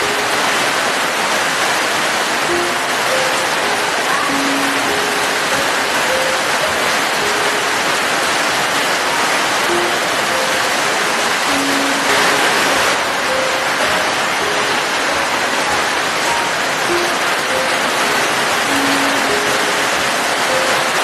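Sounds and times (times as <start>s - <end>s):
gentle music notes: 0.0s - 1.6s, 2.2s - 21.0s
steady rain: 0.0s - 21.0s.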